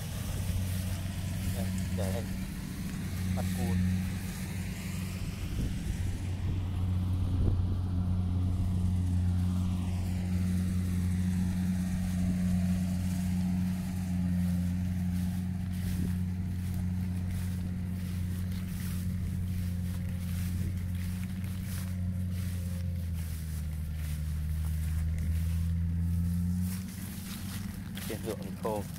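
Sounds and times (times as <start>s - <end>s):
engine running steadily: 0.0s - 28.9s
light rustling: 0.0s - 28.9s.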